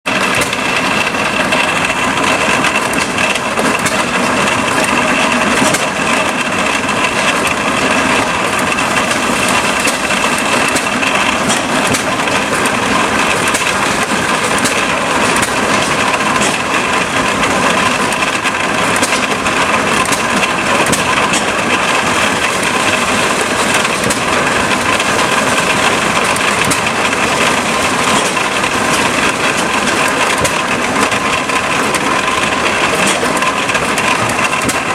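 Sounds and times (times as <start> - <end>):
corn sheller mechanical whine: 0.0 - 34.9.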